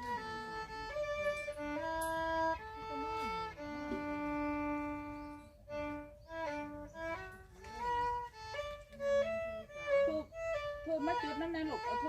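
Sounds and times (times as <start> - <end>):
bowed fiddle melody: 0.0 - 12.0.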